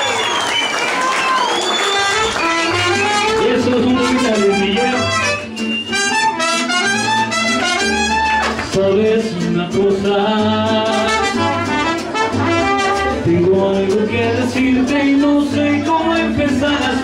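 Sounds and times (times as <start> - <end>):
latin dance music with brass: 1.0 - 17.0.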